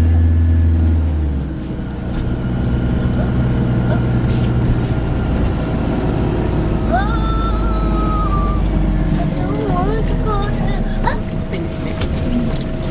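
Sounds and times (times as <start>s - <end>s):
bus engine rumbling: 0.0s - 12.9s.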